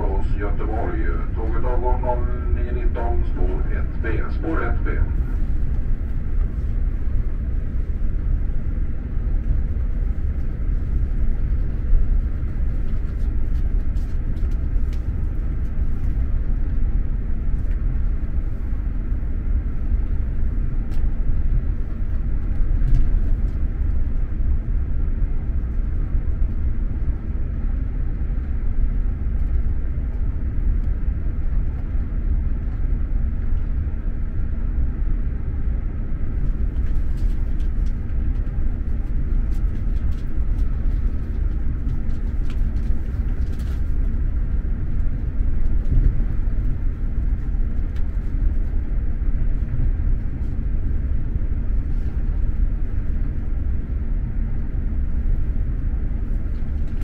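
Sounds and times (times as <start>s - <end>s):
train carriage rumble: 0.0s - 57.0s.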